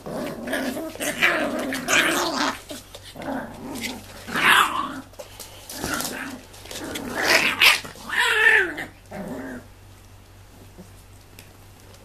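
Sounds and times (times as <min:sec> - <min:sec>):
puppies giving play calls: 0:00.0 - 0:09.7.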